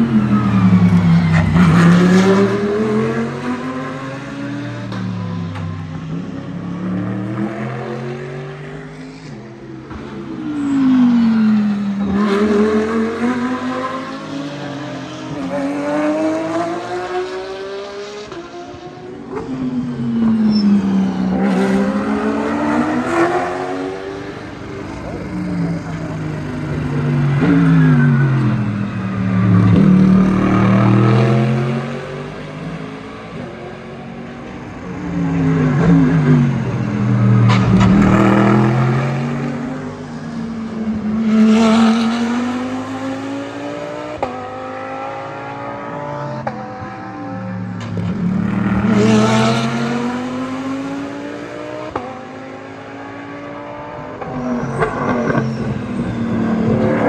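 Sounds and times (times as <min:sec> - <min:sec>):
race cars passing by: 0:00.0 - 0:57.0.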